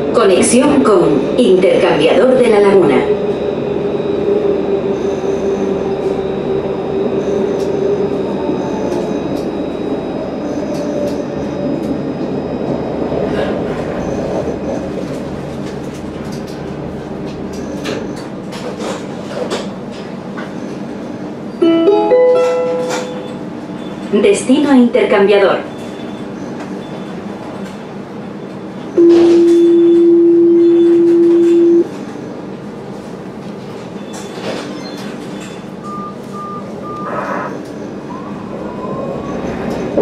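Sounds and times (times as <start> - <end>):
tram whine: 0.0 - 40.0
wheels rumbling on rail: 0.0 - 40.0.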